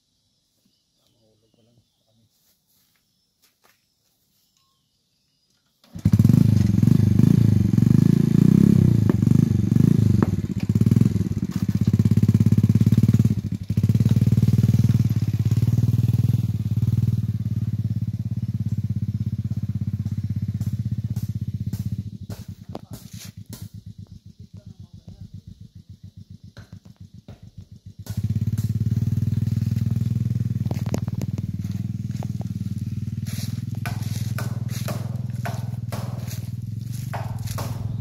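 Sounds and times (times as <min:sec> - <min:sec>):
small motorcycle engine: 0:05.8 - 0:38.0.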